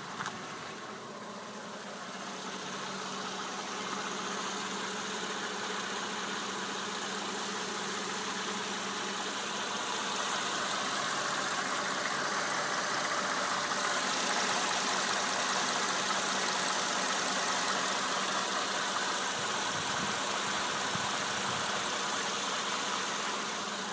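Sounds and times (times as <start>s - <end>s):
car engine idling with knock: 0.0s - 23.9s.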